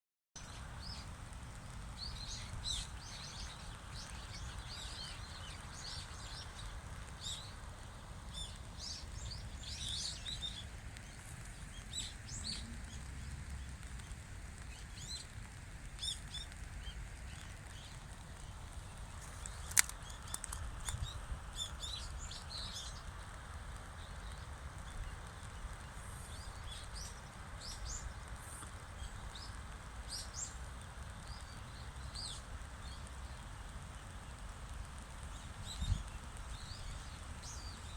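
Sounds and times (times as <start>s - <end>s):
small birds chirping: 0.4s - 37.9s.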